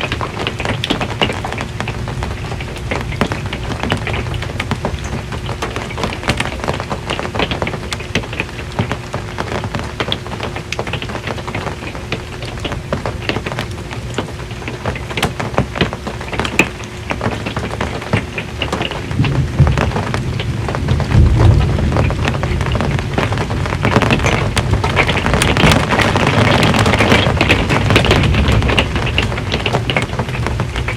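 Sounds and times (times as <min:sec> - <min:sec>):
rain on a metal roof: 0:00.0 - 0:30.9
thunder rumble: 0:00.0 - 0:30.9.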